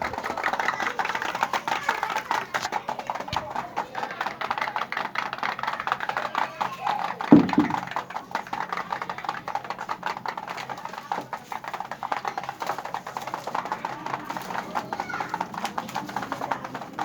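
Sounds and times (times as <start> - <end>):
quick clicking and clattering: 0.0 - 17.0.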